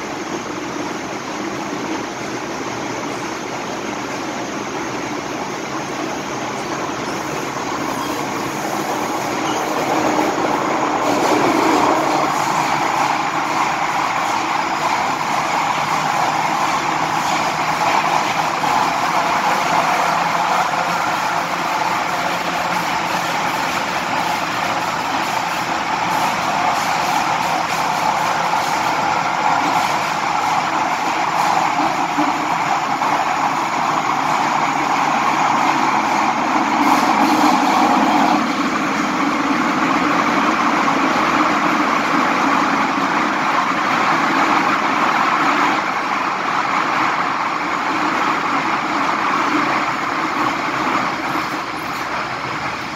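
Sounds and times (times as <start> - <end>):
train running in tunnel: 0.0 - 52.9.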